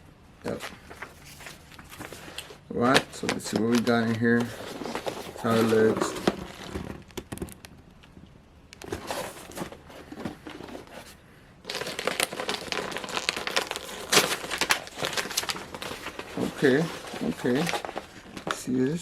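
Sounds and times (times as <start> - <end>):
plastic wrappers crinkling: 0.5 - 7.6, 8.8 - 19.0.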